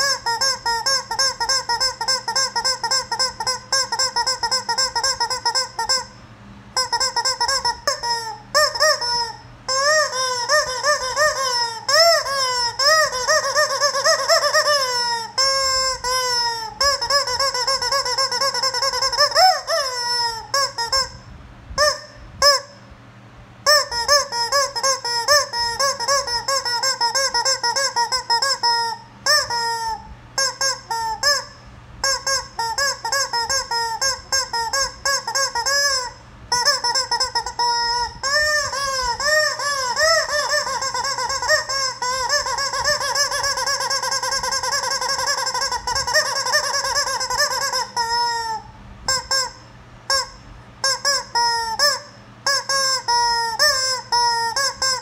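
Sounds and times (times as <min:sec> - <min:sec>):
rubber chicken toy squawking: 0:00.0 - 0:22.9, 0:23.6 - 0:55.0.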